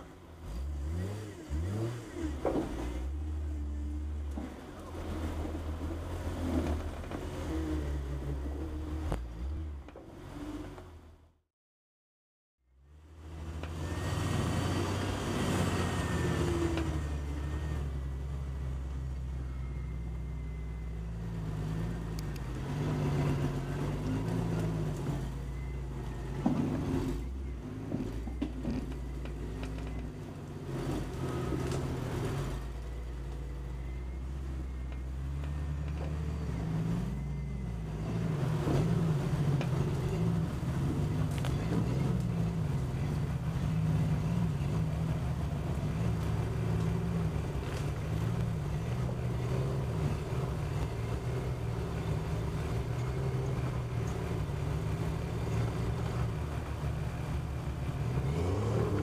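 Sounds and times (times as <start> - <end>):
vehicle engine idling and revving: 0.0 - 11.5, 12.6 - 59.0.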